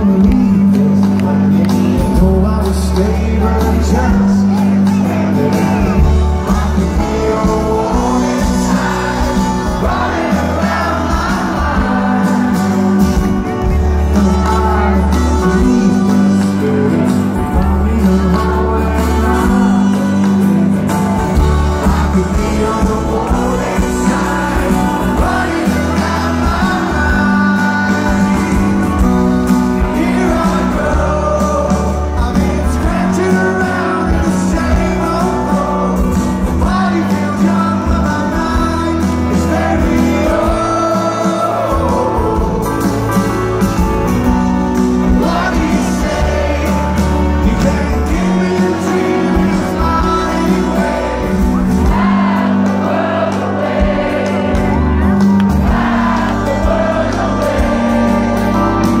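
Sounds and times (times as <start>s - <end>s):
man singing lead vocal: 0.0s - 54.8s, 55.7s - 59.0s
live rock band playing: 0.0s - 59.0s.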